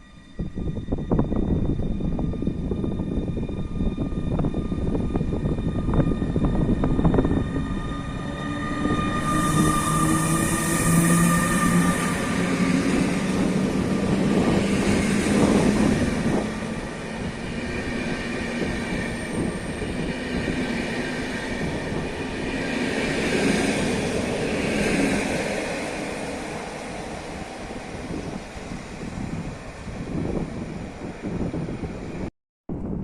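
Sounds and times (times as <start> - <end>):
held train tones: 0.0 - 32.3.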